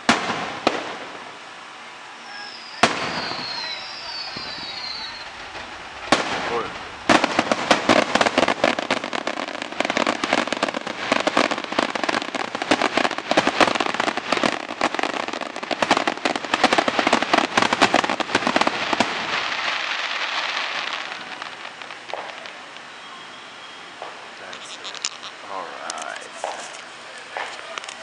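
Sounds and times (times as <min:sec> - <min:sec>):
fireworks bursting and crackling: 0:00.0 - 0:28.0.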